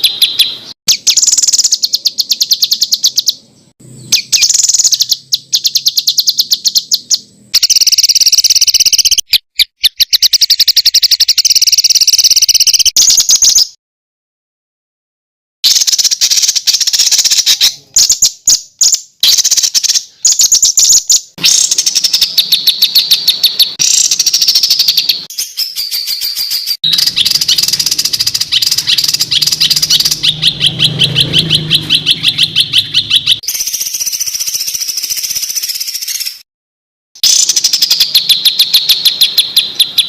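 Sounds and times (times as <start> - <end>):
harsh rattling bird bursts: 0.0 - 9.2, 15.6 - 36.4, 37.2 - 40.0
songbird fast trills: 0.0 - 13.8, 15.6 - 36.4, 37.2 - 40.0.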